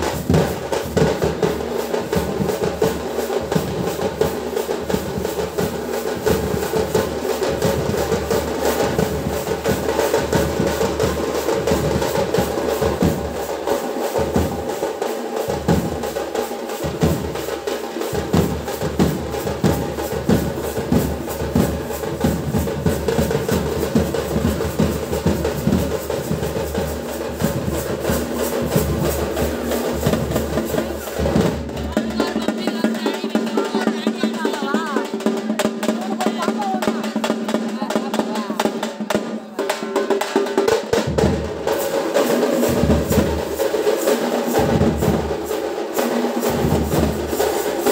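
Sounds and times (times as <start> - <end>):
drums beaten fast: 0.0 - 47.9.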